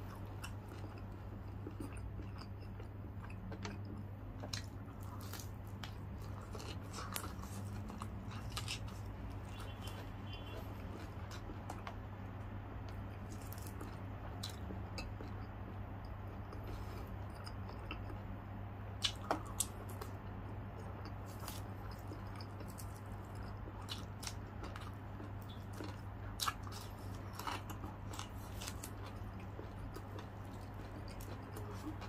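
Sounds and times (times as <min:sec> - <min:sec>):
crunchy chewing: 0:00.0 - 0:32.0
steady low hum: 0:00.0 - 0:32.0.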